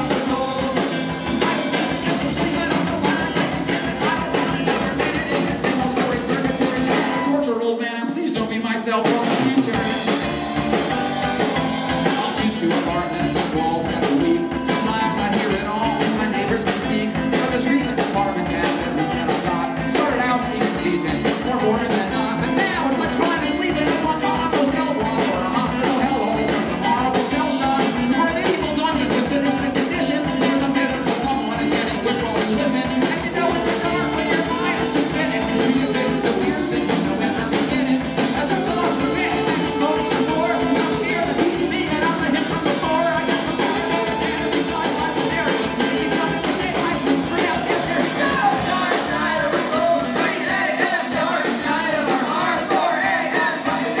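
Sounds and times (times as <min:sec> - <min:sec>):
drum kit beat: 0:00.0 - 0:07.4, 0:09.0 - 0:54.0
electric guitar: 0:00.0 - 0:07.4, 0:09.0 - 0:54.0
person singing: 0:00.0 - 0:54.0.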